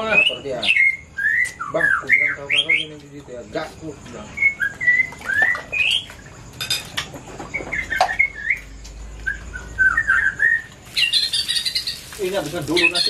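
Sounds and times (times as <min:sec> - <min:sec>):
songbird chirping and whistling: 0:00.0 - 0:03.1, 0:04.1 - 0:06.2, 0:07.3 - 0:13.0.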